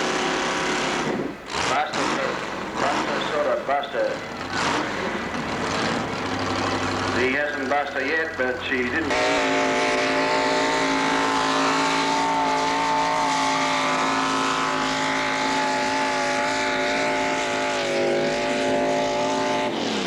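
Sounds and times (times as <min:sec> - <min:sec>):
tractor engine at high revs: 0:00.0 - 0:20.0.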